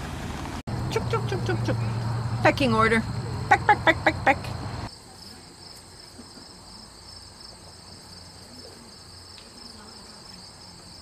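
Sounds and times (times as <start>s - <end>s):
crickets chirping: 0.7s - 11.0s.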